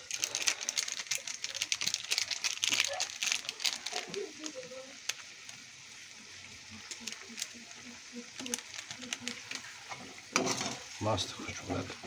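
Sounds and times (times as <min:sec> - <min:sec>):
plastic sachet crinkling: 0:00.0 - 0:09.8.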